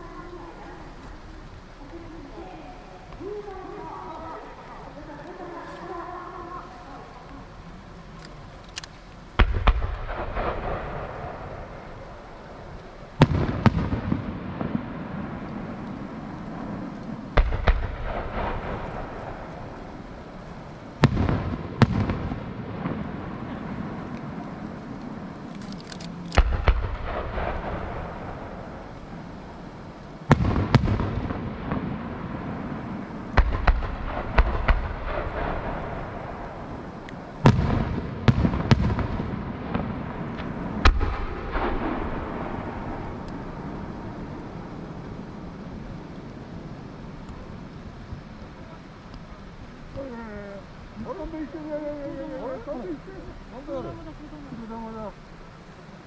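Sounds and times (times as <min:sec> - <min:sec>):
rolling echo and crackle: 0:00.0 - 0:56.0.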